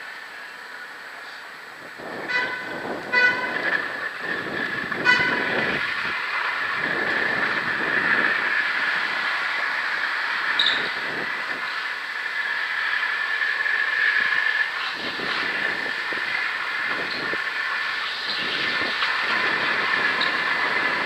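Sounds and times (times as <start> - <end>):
longboard wheels rolling on asphalt: 0.0 - 21.0.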